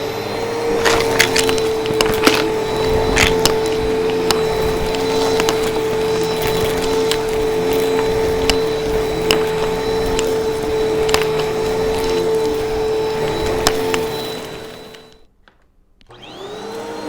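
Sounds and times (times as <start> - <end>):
vacuum cleaner motor whine: 0.0 - 15.3, 16.0 - 17.0
debris crunching in vacuum: 0.2 - 15.3.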